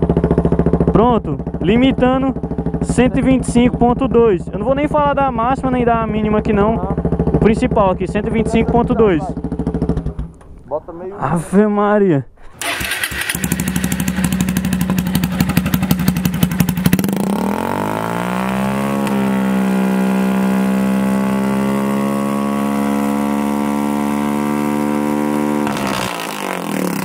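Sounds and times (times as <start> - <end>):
motorcycle engine idling and revving: 0.0 - 10.6, 12.6 - 27.0.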